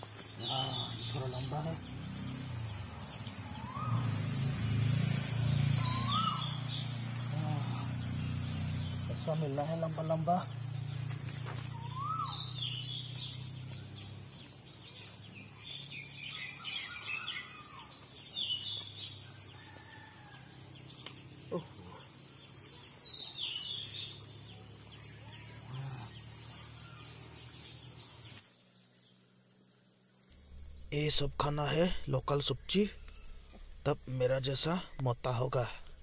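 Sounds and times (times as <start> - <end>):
high-pitched insect drone: 0.0 - 28.4, 30.1 - 36.0.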